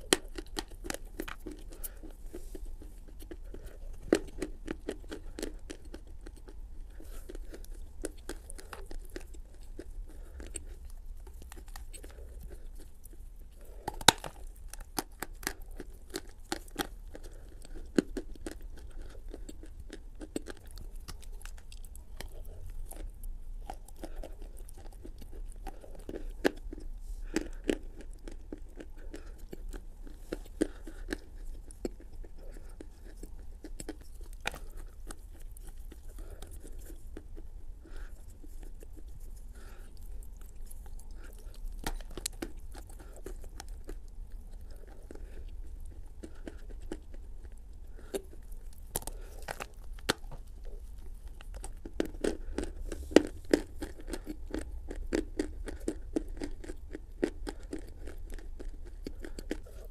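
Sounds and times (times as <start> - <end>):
chewing clay crunches: 0.0 - 59.9.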